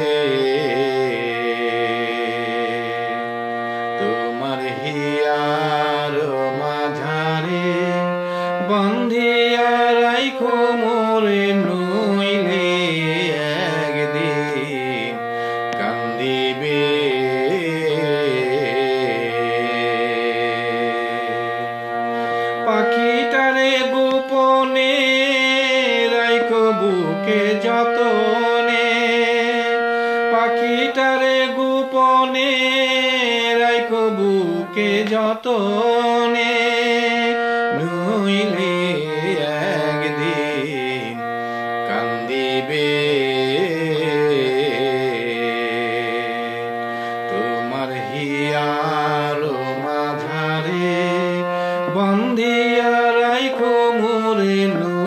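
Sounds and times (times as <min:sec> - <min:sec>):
folk song melody: 0:00.0 - 0:55.0.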